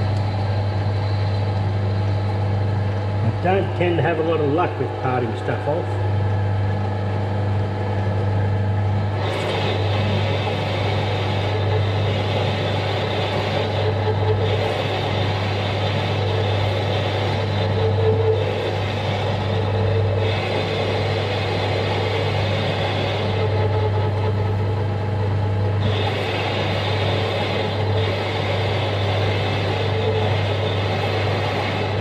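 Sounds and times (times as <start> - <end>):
metal lathe humming: 0.0 - 32.0.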